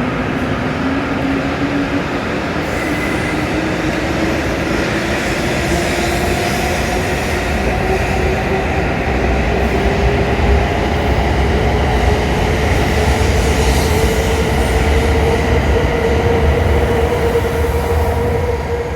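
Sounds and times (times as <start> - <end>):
train rumble: 0.0 - 18.9.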